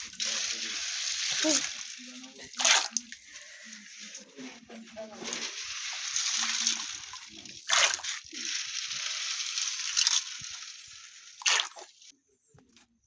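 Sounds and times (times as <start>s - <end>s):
water pouring and sloshing: 0.0s - 12.1s.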